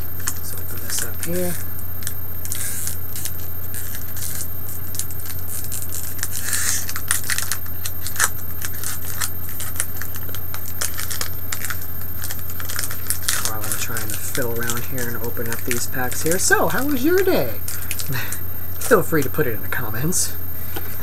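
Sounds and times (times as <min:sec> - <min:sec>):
foil wrapper crinkling: 0:00.0 - 0:21.0
steady low hum: 0:00.0 - 0:21.0.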